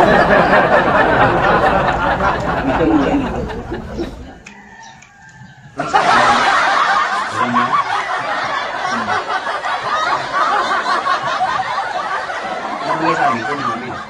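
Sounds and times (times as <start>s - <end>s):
voices laughing and chattering: 0.0s - 14.0s.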